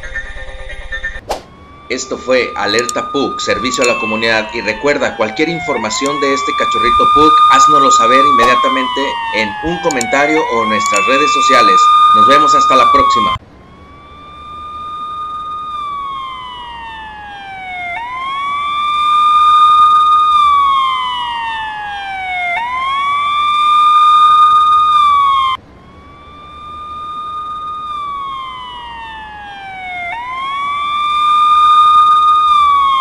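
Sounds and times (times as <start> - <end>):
police siren wailing: 0.0 - 33.0.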